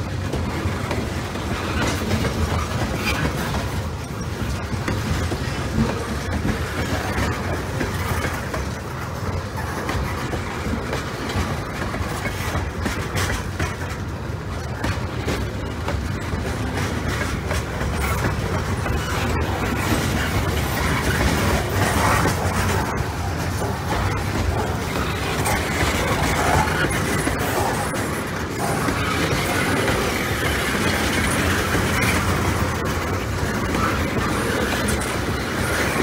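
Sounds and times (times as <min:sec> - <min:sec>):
train wheels rumbling on rail: 0:00.0 - 0:36.0
wheels clicking over rail joints: 0:00.0 - 0:36.0.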